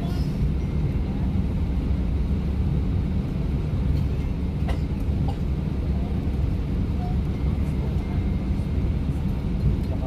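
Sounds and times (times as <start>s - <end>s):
aircraft engine noise: 0.0s - 10.0s.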